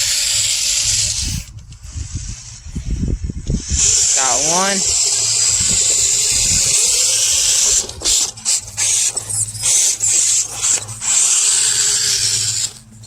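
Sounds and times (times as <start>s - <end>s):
rc car scraping over rough ground: 0.0s - 13.0s.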